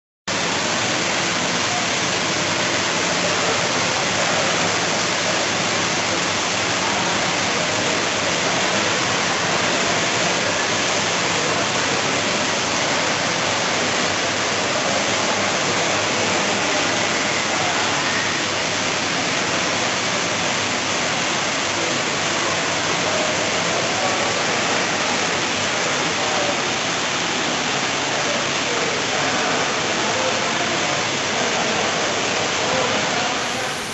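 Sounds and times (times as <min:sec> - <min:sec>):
heavy rain pouring: 0:00.3 - 0:33.9.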